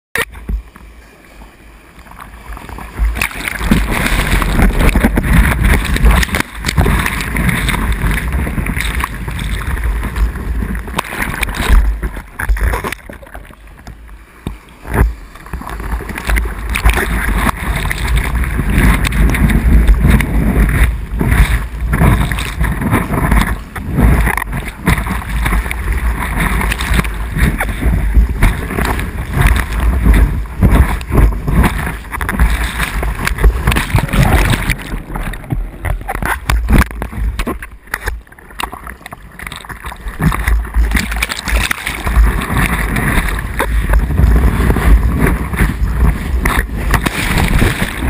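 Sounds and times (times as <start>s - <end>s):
sea water splashing: 0.2s - 48.0s
wind buffeting microphone: 2.9s - 13.0s, 14.9s - 38.0s, 40.1s - 48.0s.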